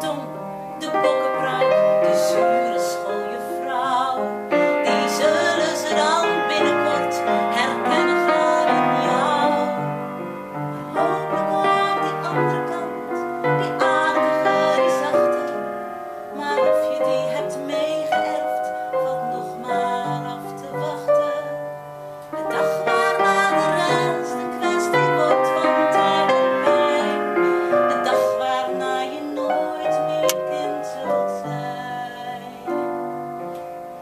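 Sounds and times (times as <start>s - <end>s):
woman singing: 0.0s - 33.1s
upright piano: 0.0s - 34.0s.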